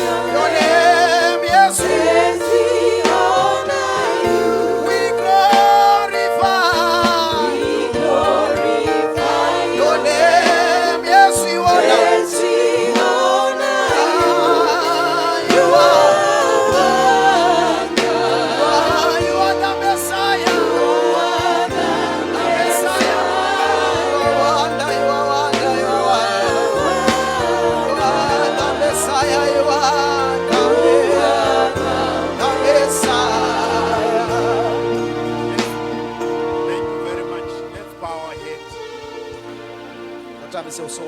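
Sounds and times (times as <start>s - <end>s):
keyboard chords: 0.0s - 41.0s
voices singing with vibrato: 0.0s - 41.0s
bass notes: 1.8s - 40.2s.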